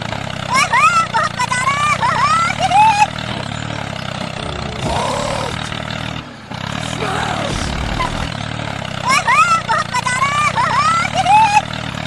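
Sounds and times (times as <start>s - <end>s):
tractor motor running: 0.0s - 12.0s.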